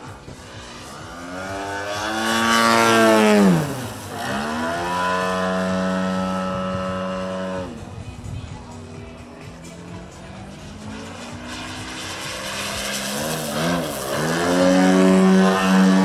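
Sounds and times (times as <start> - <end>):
aerobatic plane engine: 0.0 - 16.0.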